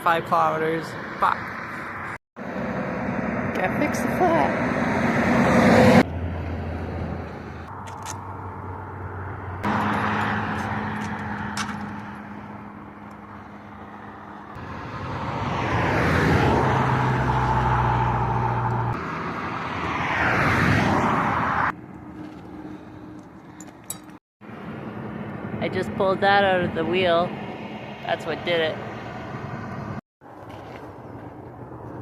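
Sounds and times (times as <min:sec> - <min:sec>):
tyre and engine noise: 0:00.0 - 0:32.0
vehicles passing close by: 0:00.0 - 0:32.0.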